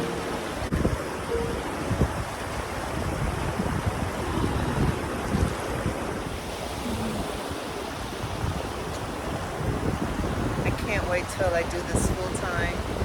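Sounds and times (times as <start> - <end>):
creek water flowing: 0.0 - 13.0
wind buffeting microphone: 0.0 - 13.0.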